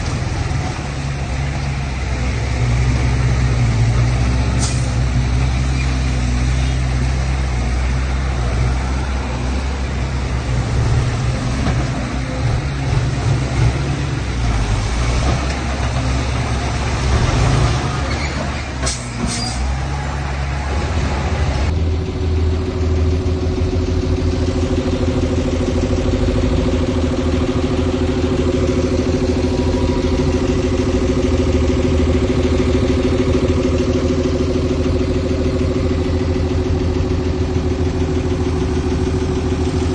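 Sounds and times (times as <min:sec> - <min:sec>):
engine idling: 0:00.0 - 0:39.9
heavy diesel machinery engine: 0:00.0 - 0:39.9.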